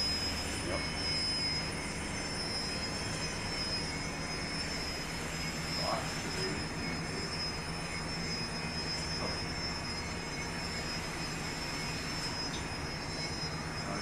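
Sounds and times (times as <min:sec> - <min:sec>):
grinding machine hum with high whine: 0:00.0 - 0:14.0.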